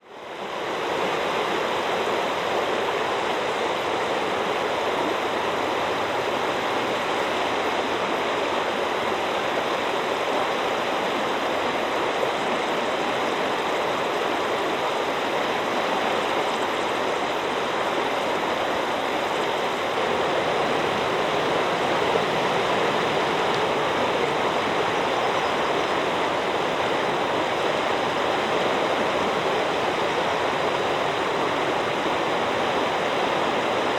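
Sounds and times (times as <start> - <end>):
river water rushing: 0.0 - 33.9.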